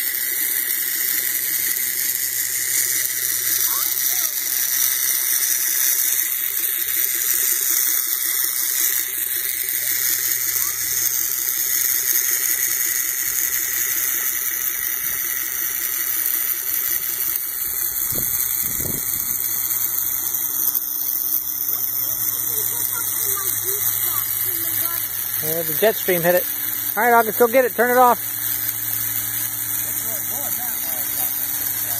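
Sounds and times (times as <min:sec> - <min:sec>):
running water with pump hum: 0:00.0 - 0:31.9.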